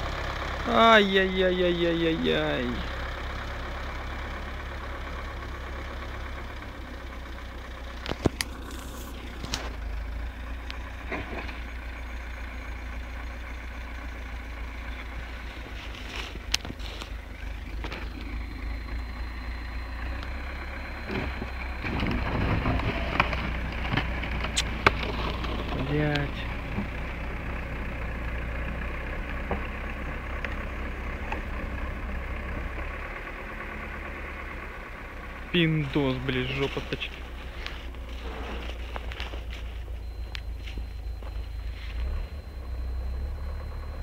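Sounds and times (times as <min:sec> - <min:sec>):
car engine and road rumble: 0:00.0 - 0:44.0.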